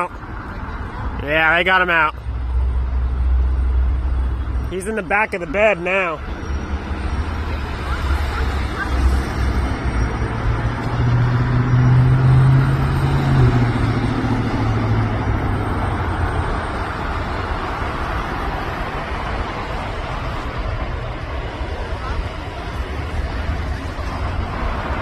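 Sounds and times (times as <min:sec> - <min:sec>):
road traffic noise: 0:00.0 - 0:25.0
vehicle engine droning: 0:00.0 - 0:25.0.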